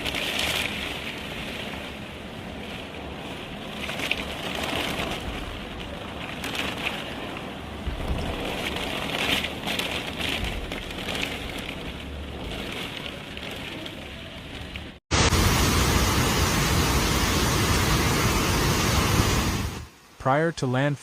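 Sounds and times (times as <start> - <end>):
heavy rain: 0.0 - 20.2
wind: 0.0 - 21.0.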